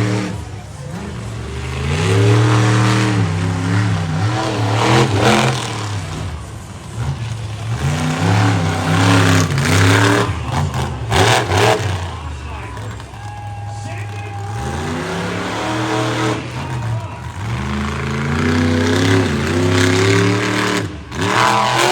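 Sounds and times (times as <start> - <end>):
monster truck engine revving: 0.0 - 21.9.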